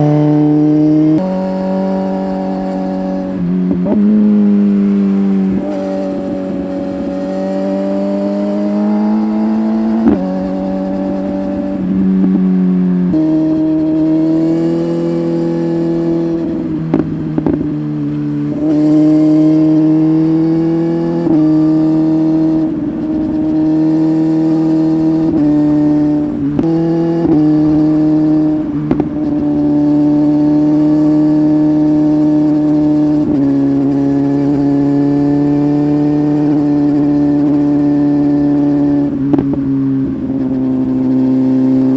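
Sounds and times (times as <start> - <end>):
motorcycle engine with gear changes: 0.0 - 41.9.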